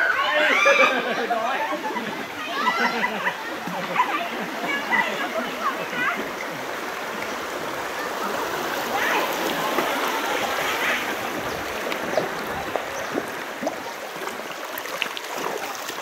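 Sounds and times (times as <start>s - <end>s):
river water rushing and splashing: 0.0s - 16.0s.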